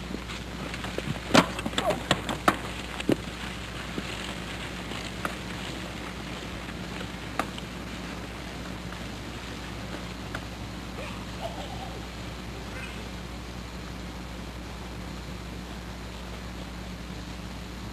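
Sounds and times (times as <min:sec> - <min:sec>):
low constant hum: 0:00.0 - 0:17.9
tape hiss: 0:00.0 - 0:17.9.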